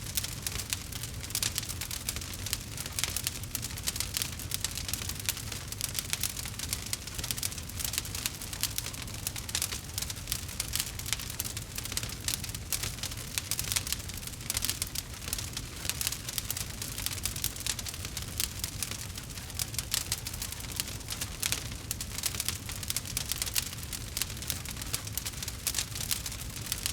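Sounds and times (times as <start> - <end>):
burning logs crackling: 0.0 - 26.9.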